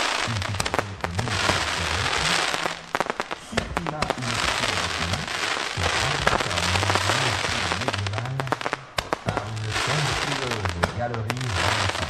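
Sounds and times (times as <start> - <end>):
fireworks crackling and popping: 0.0 - 12.0
steady hiss: 0.0 - 12.0
low pitched notes: 0.2 - 12.0.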